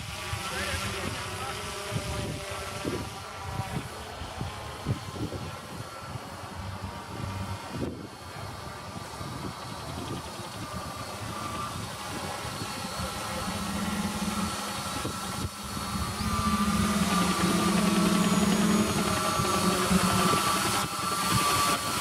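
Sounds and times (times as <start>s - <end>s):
toy quadcopter humming: 0.0s - 22.0s.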